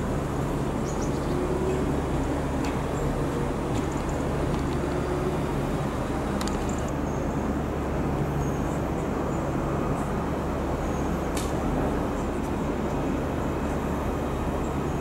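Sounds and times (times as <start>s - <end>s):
train hum: 0.0s - 15.0s.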